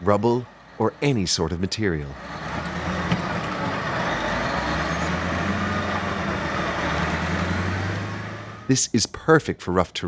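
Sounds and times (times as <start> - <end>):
diesel engine droning: 0.0 - 9.0.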